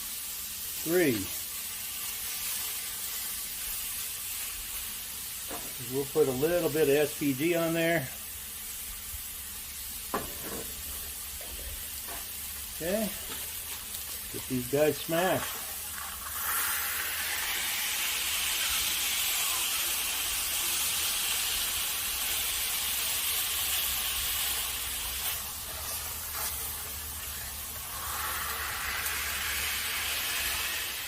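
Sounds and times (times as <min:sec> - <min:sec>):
burger patties sizzling on griddle: 0:00.0 - 0:31.0.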